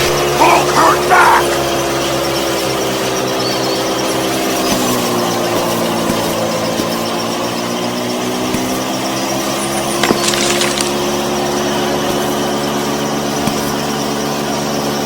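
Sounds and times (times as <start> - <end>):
small motor humming: 1.4 - 15.0.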